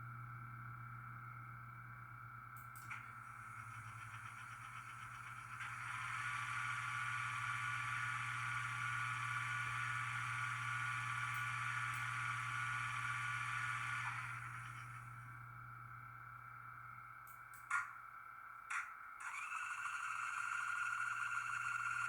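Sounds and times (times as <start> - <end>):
low electric hum: 0.0 - 22.0.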